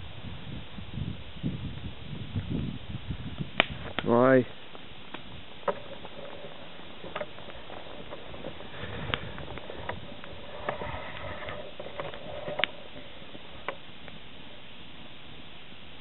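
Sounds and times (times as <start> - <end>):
campfire crackling and popping: 0.0 - 15.7.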